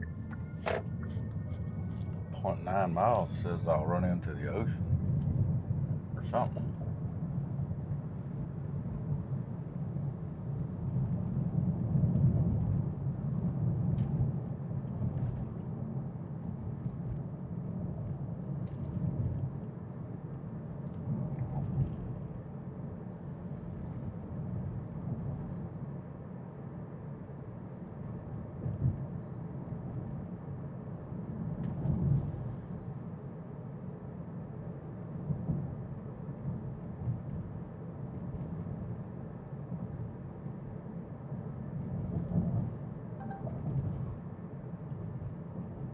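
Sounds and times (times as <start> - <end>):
road and tyre rumble in car: 0.0 - 43.2.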